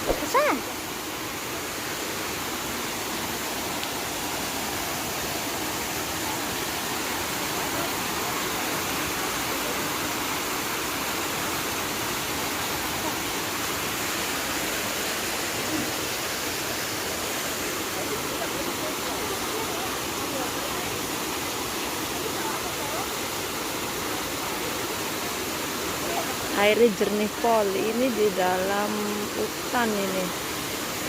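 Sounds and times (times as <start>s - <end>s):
flowing river water: 0.0s - 31.0s.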